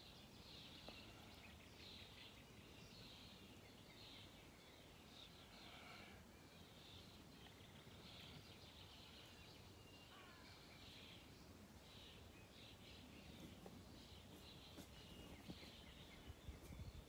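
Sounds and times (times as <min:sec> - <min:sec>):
faint birdsong: 0:00.0 - 0:17.0
outdoor background hiss: 0:00.0 - 0:17.0.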